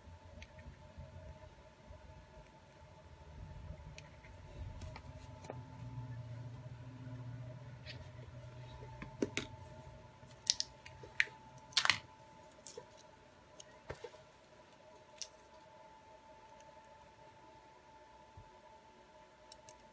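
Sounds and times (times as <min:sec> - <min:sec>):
faint electrical whine: 0:00.0 - 0:19.9
low hum: 0:00.0 - 0:19.9.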